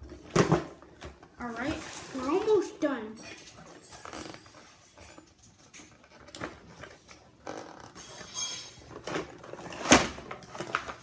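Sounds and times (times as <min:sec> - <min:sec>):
plastic packaging rustling: 0:00.0 - 0:11.0.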